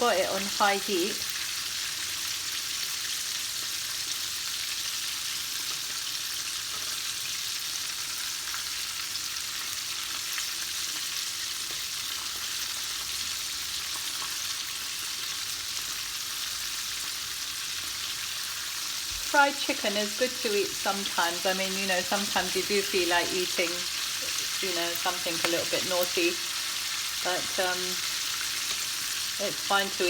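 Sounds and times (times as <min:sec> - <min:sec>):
chicken deep-frying in oil: 0:00.0 - 0:30.0.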